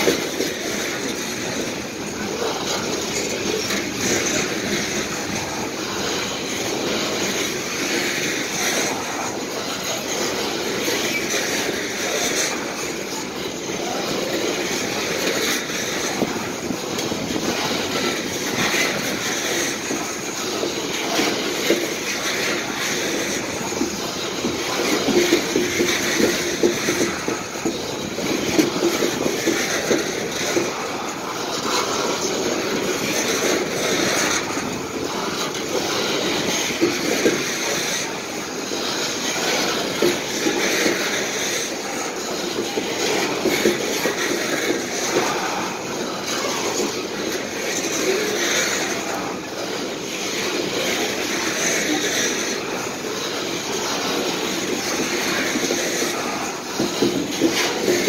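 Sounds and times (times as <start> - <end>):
steel wheels rumbling on rail: 0.0 - 58.0
wheels clicking over rail joints: 0.0 - 58.0.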